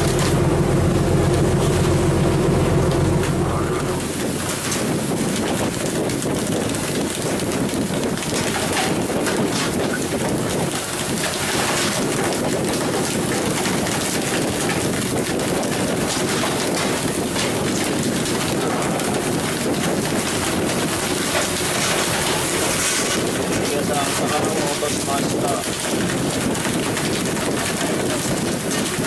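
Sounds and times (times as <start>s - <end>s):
water jets spraying onto sea: 0.0s - 29.0s
wind: 0.0s - 29.0s.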